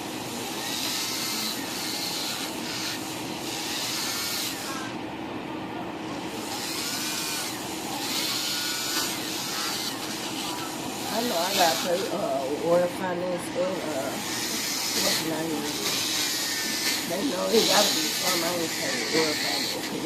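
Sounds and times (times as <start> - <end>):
electric nail file grinding: 0.0 - 5.2, 6.0 - 20.0.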